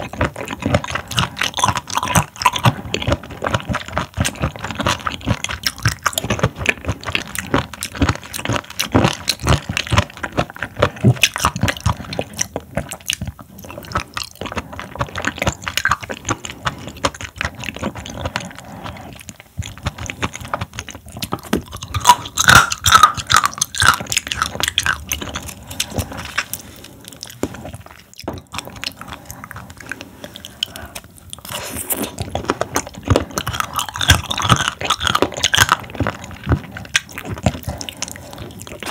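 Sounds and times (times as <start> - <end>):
chewing raw seafood: 0.0 - 38.9.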